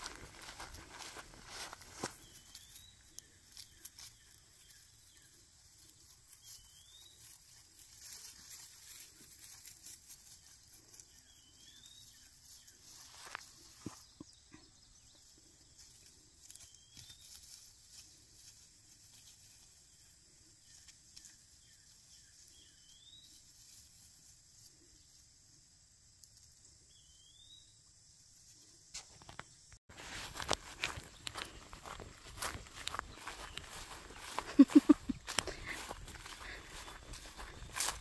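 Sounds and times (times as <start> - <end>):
footsteps through grass: 0.0 - 14.2, 15.1 - 24.7, 29.0 - 38.0.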